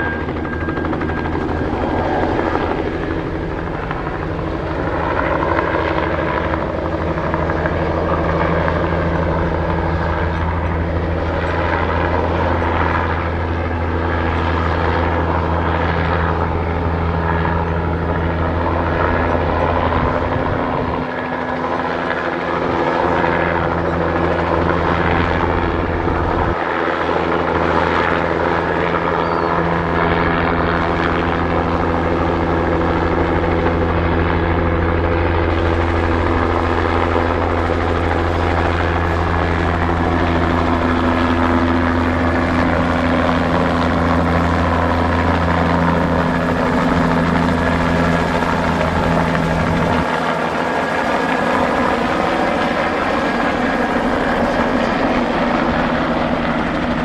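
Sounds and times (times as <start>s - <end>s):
helicopter rotor and engine noise: 0.0s - 57.0s.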